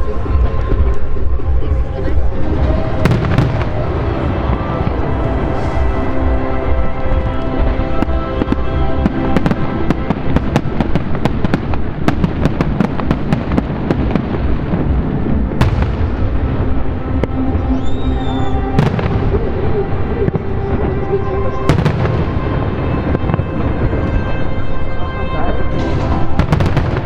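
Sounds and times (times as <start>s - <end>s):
fireworks bangs and crackles: 0.0s - 27.0s
loud show music: 0.0s - 27.0s.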